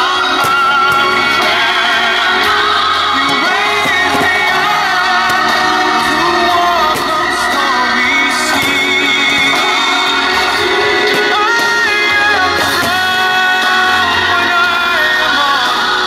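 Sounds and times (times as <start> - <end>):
music with singing voice: 0.0 - 16.0.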